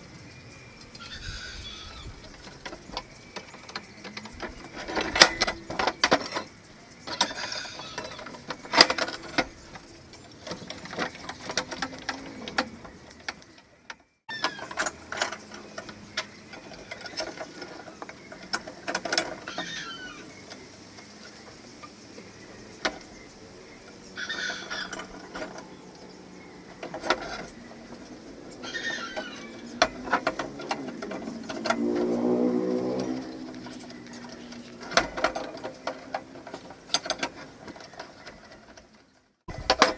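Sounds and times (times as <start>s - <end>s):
bird chirps: 0.0s - 39.6s.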